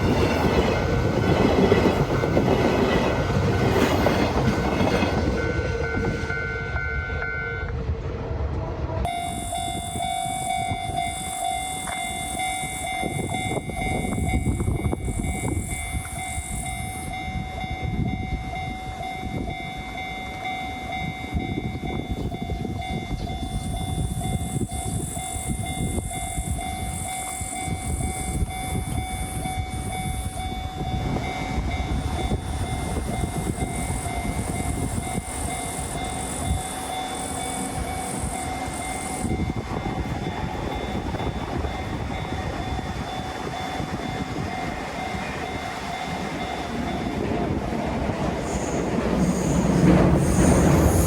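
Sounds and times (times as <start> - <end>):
crossing warning bell ringing: 0.0 - 7.8, 9.0 - 51.0
freight train rumbling: 0.0 - 51.0.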